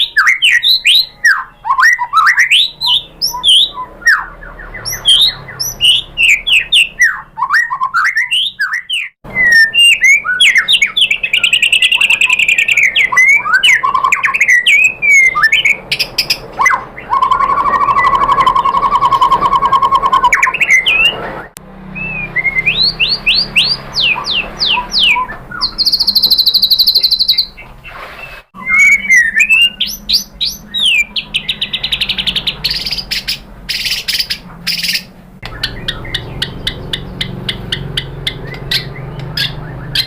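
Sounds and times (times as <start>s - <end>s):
bird singing whistled notes: 0.0s - 40.0s.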